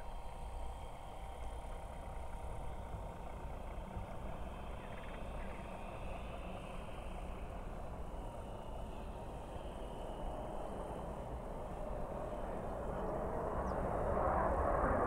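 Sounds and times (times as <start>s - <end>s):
distant jet rumble: 1.4s - 15.0s.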